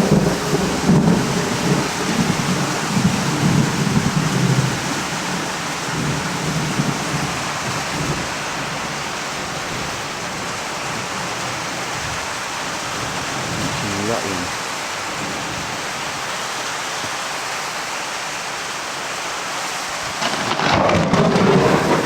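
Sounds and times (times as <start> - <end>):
thunder rumbling: 0.0 - 16.2, 20.1 - 22.0
heavy rain falling: 0.0 - 22.0.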